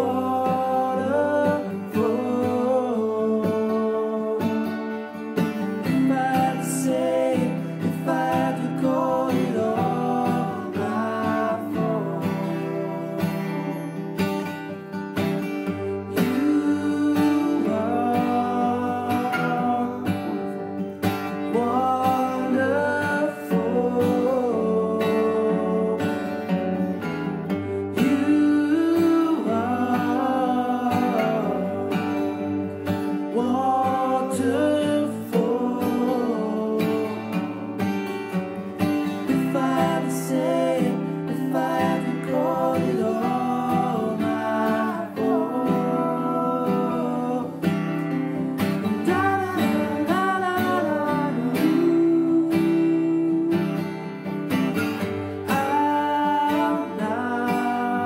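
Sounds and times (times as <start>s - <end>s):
person singing: 0.0s - 58.0s
strummed acoustic guitar: 0.0s - 58.0s.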